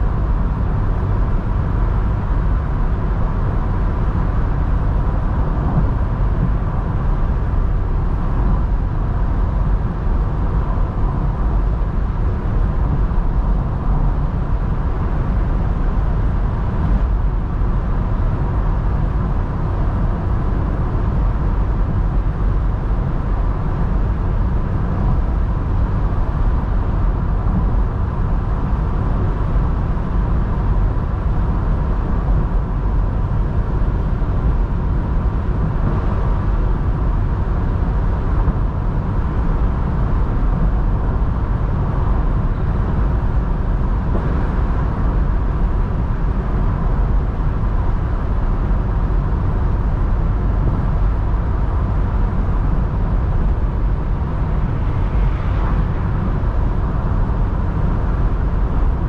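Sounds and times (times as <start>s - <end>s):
car engine running smoothly: 0.0s - 59.0s
wind noise: 0.0s - 59.0s.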